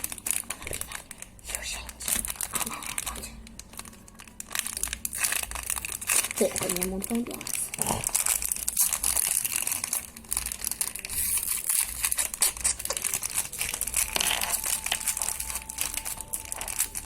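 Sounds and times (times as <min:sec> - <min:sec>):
crunchy slime crackling: 0:00.0 - 0:17.0.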